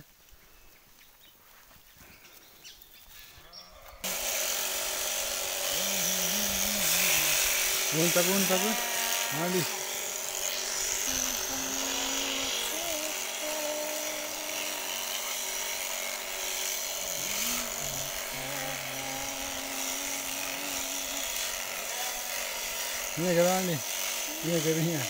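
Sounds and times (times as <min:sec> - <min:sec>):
shearing machine running: 0:03.8 - 0:25.0.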